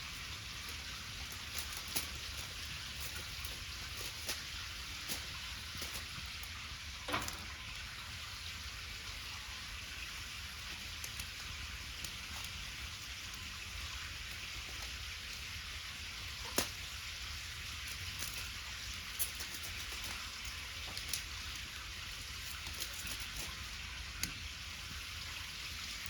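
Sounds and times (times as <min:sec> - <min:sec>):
bonfire crackling and popping: 0:00.0 - 0:09.1, 0:10.0 - 0:26.0.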